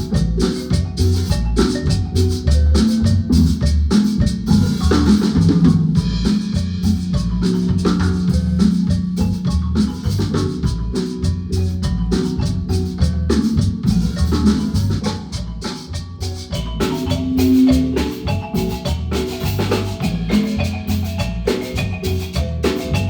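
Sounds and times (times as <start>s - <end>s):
drum kit beat: 0.0s - 23.0s
low bass notes: 0.0s - 23.0s
marimba band playing: 0.0s - 23.0s.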